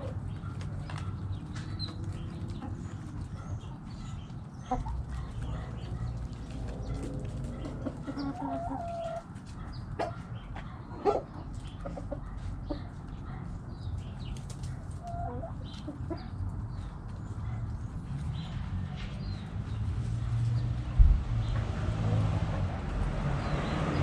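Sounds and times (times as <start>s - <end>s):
hens clucking: 0.0s - 19.5s.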